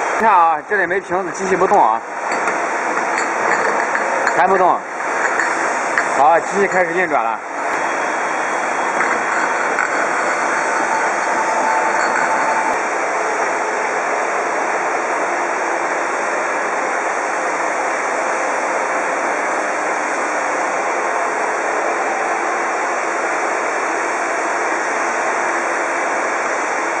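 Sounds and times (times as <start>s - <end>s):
conveyor belt hissing: 0.0s - 27.0s.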